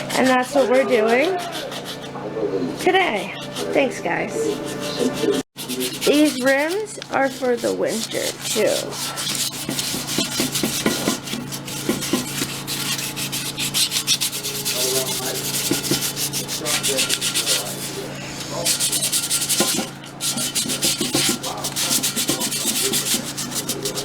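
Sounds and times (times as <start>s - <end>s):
sandpaper scrubbing metal: 0.0s - 2.2s, 2.8s - 24.0s.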